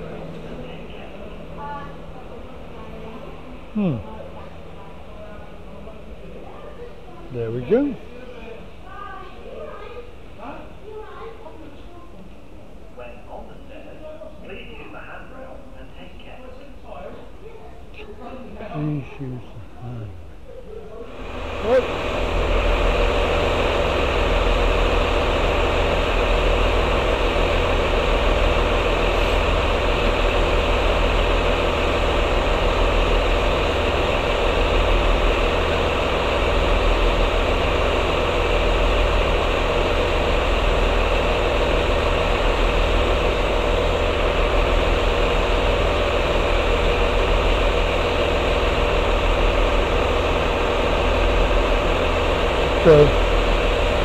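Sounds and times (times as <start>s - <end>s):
diesel train engine idling: 0.0s - 11.7s, 21.0s - 54.0s.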